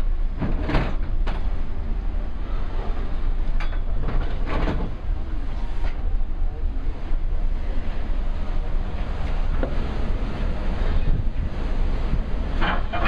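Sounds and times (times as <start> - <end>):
sea wash: 0.0 - 13.0
wind buffeting microphone: 0.0 - 13.0.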